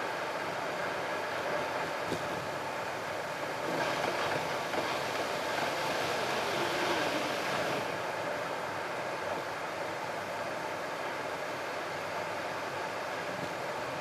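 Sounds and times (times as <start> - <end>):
car tyre and road noise: 0.0 - 14.0.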